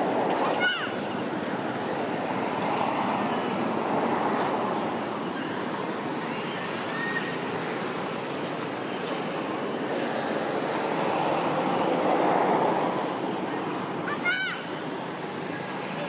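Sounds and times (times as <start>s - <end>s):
outdoor rushing noise: 0.0s - 16.0s.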